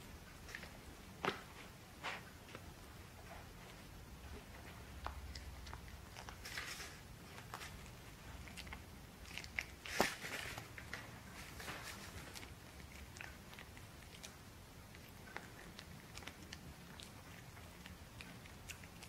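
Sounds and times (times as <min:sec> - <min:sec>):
puppy chewing shoelace: 0:00.4 - 0:19.0.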